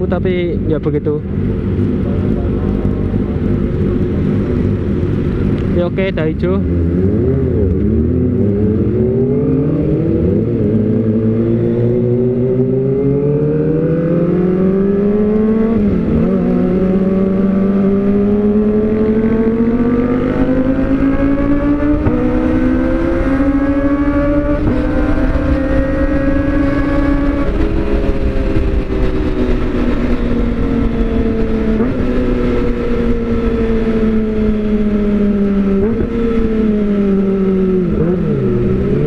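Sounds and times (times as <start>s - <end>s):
motorcycle accelerating: 0.0s - 39.0s.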